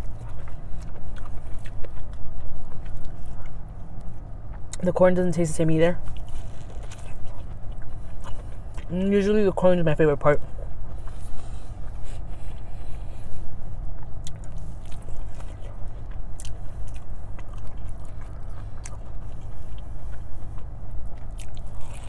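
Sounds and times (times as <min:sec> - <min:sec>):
chewing corn on the cob: 0:00.0 - 0:22.0
steady low hum: 0:00.0 - 0:22.0.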